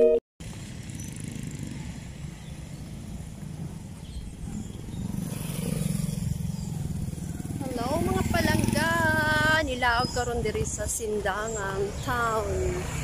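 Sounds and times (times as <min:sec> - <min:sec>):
street traffic: 0:00.0 - 0:13.0
motorcycle engine running: 0:00.4 - 0:13.0.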